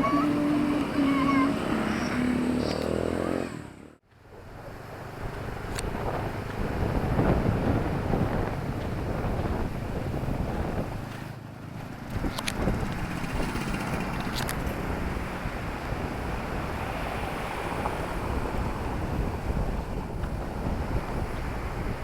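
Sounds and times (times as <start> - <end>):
engine droning: 0.0 - 20.6
traffic rumble: 0.0 - 22.0.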